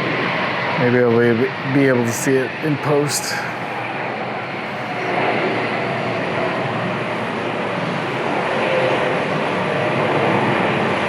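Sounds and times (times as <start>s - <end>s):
jet engines roaring past: 0.0s - 11.0s.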